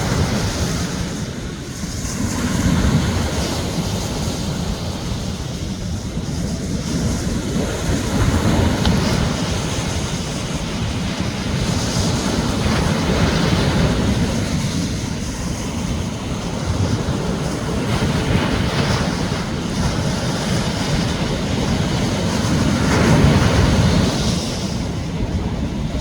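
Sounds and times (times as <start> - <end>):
sea waves breaking on beach: 0.0 - 26.0
wind rumble on microphone: 0.0 - 26.0.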